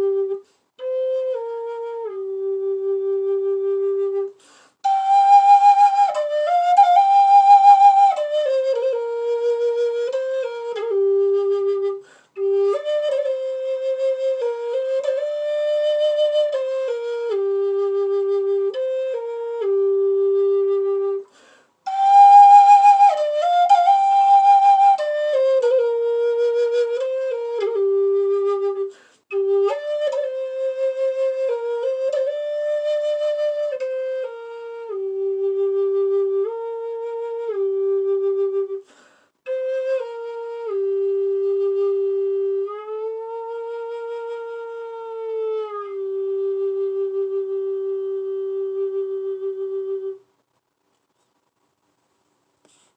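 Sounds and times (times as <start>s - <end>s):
wooden flute melody: 0.0s - 50.4s.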